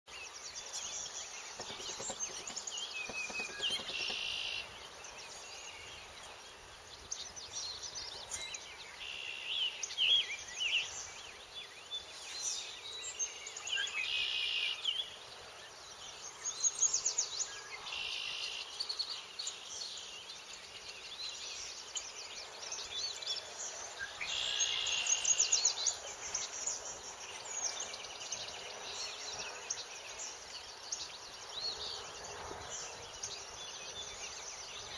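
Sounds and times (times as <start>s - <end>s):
loud bird song phrase: 0.1s - 34.9s
steady outdoor hiss: 0.1s - 34.9s
birds singing in chorus: 0.2s - 34.9s.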